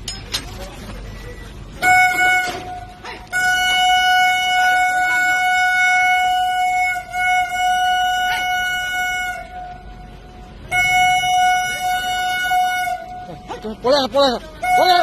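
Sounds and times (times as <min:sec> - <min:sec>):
locomotive horn: 0:01.8 - 0:15.0.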